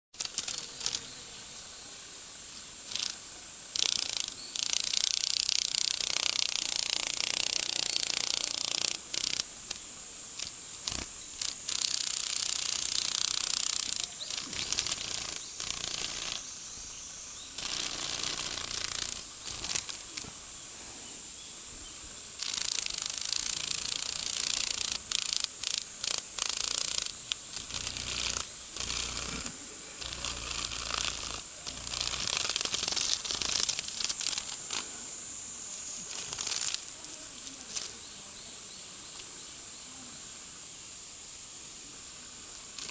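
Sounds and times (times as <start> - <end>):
cicada buzzing in bursts: 0.1 - 42.9.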